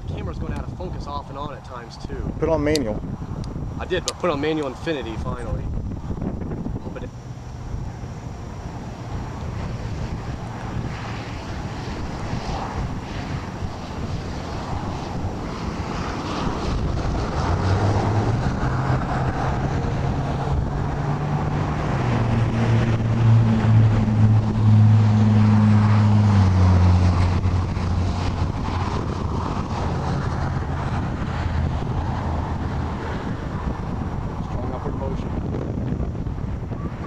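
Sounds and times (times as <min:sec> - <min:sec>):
vehicle engine humming: 0:00.0 - 0:37.0
wind buffeting microphone: 0:00.0 - 0:37.0.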